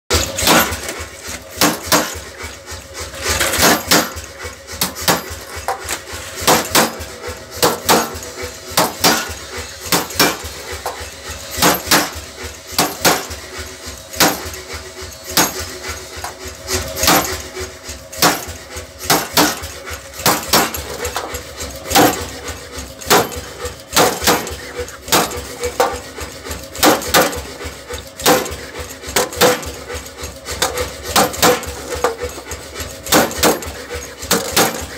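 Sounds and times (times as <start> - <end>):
power hammer on steel sheet: 0.1 - 34.9.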